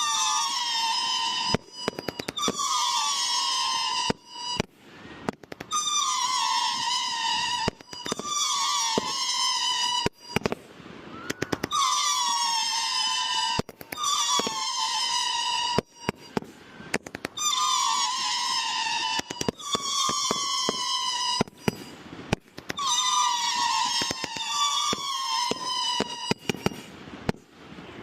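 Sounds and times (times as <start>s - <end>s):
falling firework whistle: 0.0s - 27.5s
firework pops and crackles: 0.0s - 27.5s.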